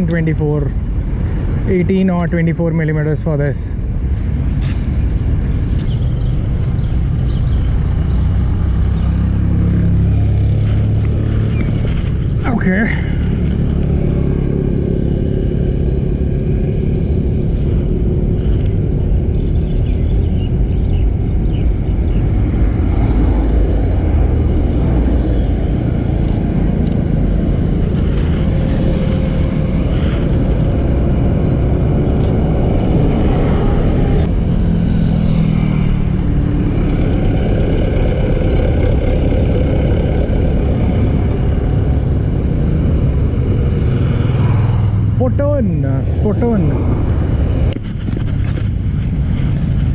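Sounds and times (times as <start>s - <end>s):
car engines passing: 0.0s - 49.9s
vehicle passing close: 3.8s - 49.9s.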